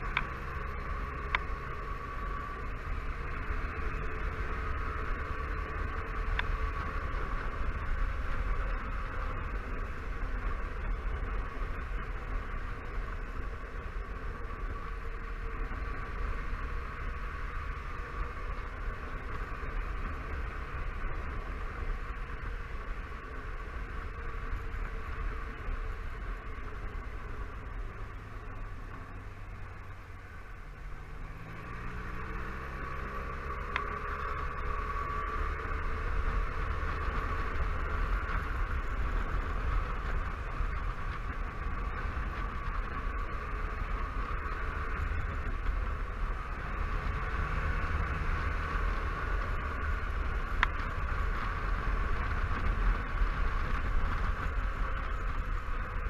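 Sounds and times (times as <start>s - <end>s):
scooter engine running: 0.0s - 56.0s
wind and road noise: 0.0s - 56.0s.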